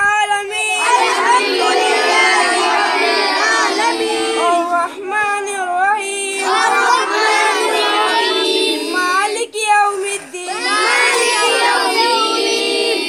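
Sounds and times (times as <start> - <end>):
boys chanting prayer: 0.0 - 13.0.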